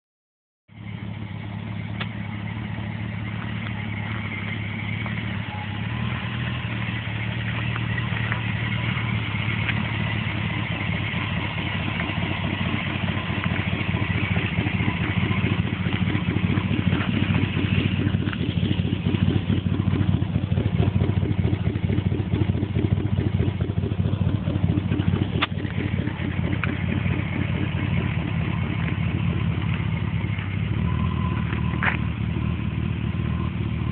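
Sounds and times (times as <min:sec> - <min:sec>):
car engine idling: 0:00.7 - 0:33.9.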